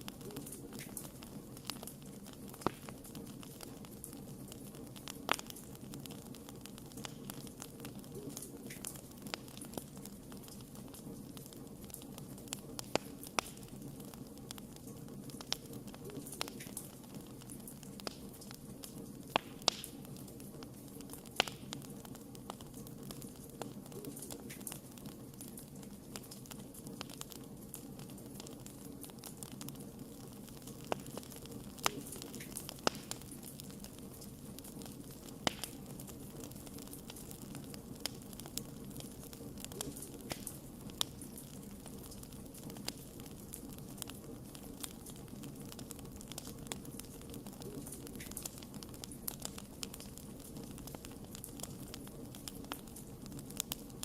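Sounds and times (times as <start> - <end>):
low rumble of flame: 0.0 - 54.0
wood fire popping and crackling: 0.0 - 54.0.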